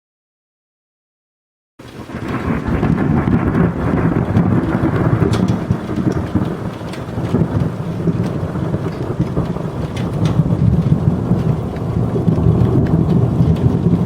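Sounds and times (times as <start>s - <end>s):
heavy rain: 1.8s - 14.0s
thunder rumble: 1.8s - 14.0s.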